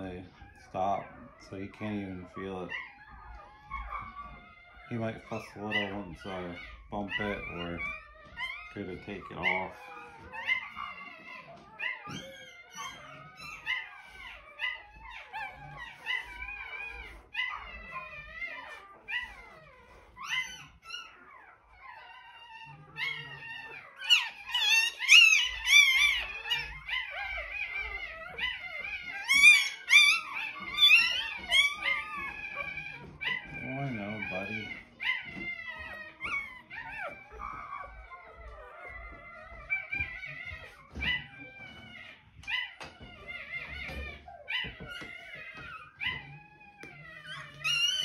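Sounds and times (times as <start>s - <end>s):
puppies whining and crying: 0.0s - 48.0s.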